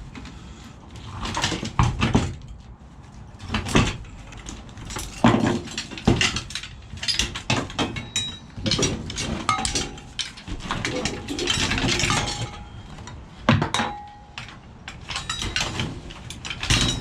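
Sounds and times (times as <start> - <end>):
scrap metal knocking and clanking: 3.4 - 17.0.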